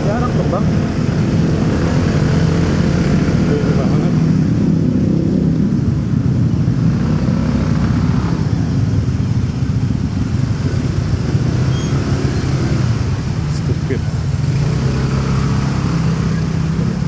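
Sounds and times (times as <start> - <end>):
motorcycle engine rumbling: 0.0 - 17.0
road and traffic noise: 0.0 - 17.0.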